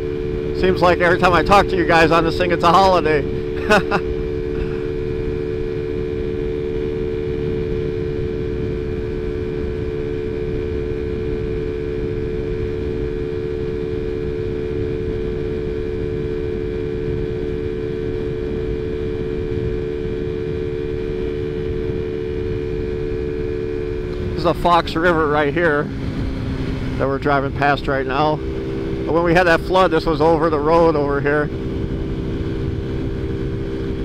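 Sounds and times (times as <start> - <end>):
scooter engine droning: 0.0 - 34.0
wind rumble on microphone: 0.0 - 34.0.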